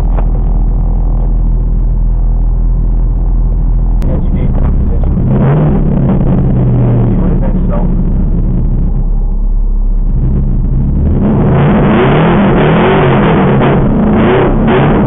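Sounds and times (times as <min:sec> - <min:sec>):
car engine running from inside: 0:00.0 - 0:15.0.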